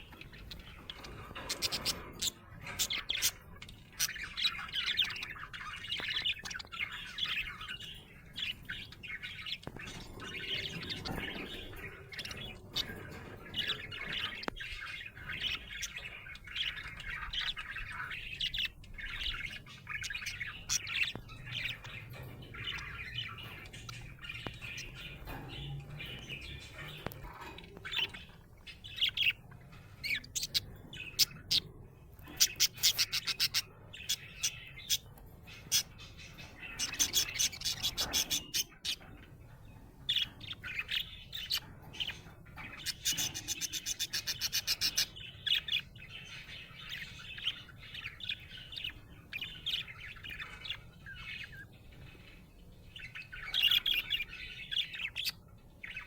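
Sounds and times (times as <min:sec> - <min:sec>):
budgerigar chirping: 0:00.0 - 0:39.3, 0:40.0 - 0:56.0
budgerigar rattling trills: 0:00.0 - 0:56.0.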